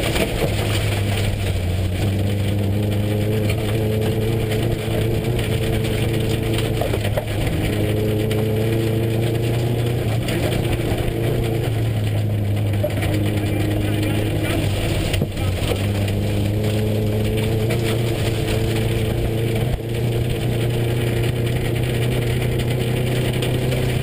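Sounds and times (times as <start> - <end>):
car engine running: 0.0 - 24.0
tyres rumbling on gravel: 0.0 - 24.0.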